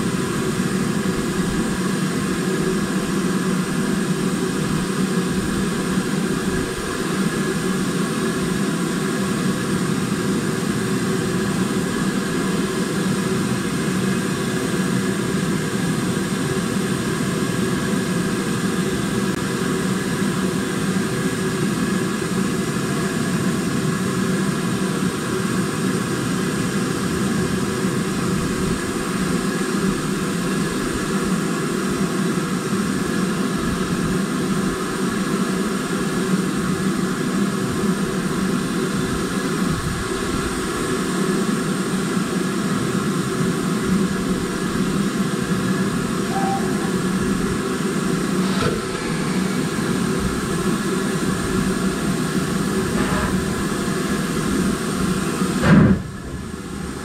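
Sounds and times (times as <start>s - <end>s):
steam locomotive running: 0.0s - 57.0s.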